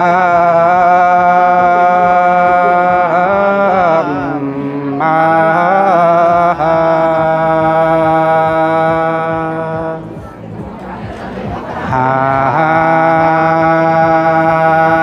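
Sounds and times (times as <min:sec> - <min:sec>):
man singing unaccompanied: 0:00.0 - 0:10.4, 0:11.7 - 0:15.0.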